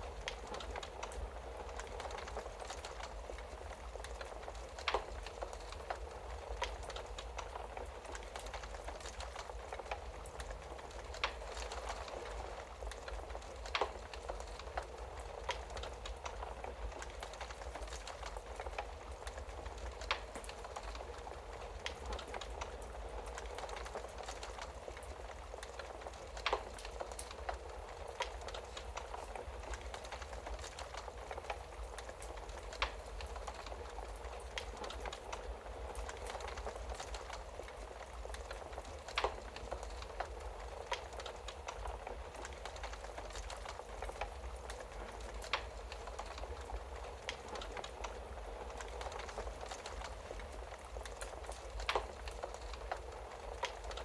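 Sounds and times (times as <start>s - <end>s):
fire crackling and popping: 0.0s - 54.0s
low fire rumble: 0.0s - 54.0s.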